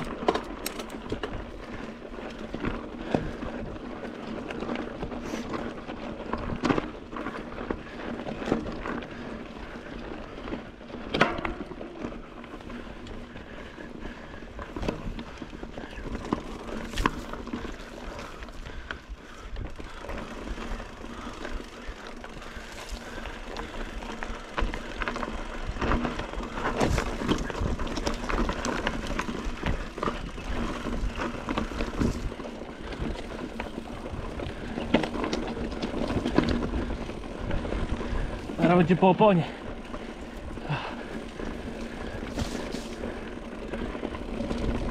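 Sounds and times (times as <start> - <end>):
bike knocking and rattling: 0.0 - 44.9
bike tyres rolling over rocks: 0.0 - 44.9.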